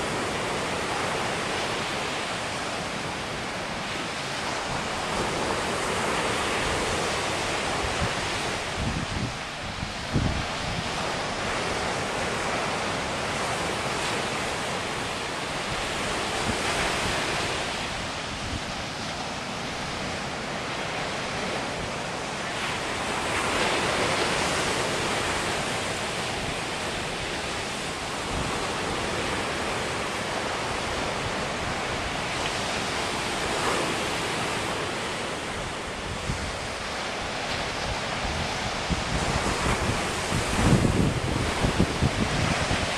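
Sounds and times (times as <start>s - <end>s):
surf breaking on a beach: 0.0s - 42.9s.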